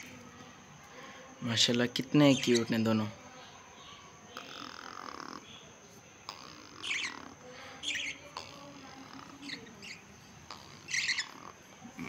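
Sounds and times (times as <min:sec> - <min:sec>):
bird chicks chirping: 0:02.0 - 0:12.0.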